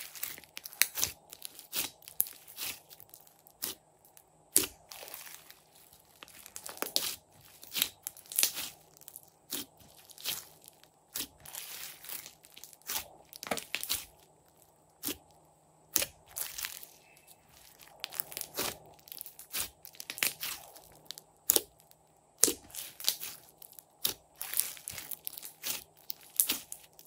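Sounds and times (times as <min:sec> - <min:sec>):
slime crackling and popping: 0:00.0 - 0:27.0.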